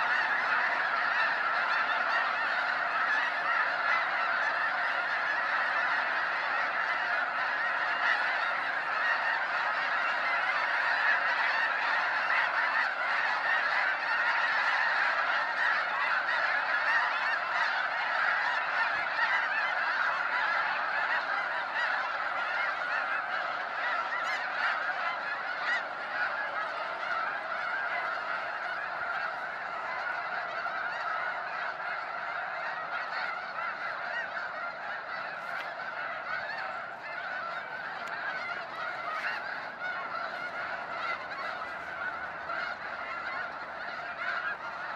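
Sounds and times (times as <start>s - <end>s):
geese honking: 0.0s - 44.9s.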